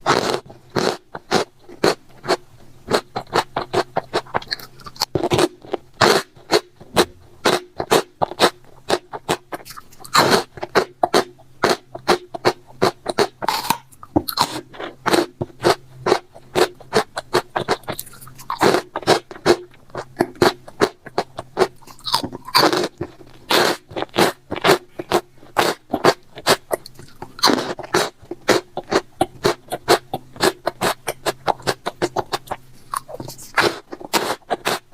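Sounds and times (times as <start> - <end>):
crunchy food chewing: 0.0 - 34.9.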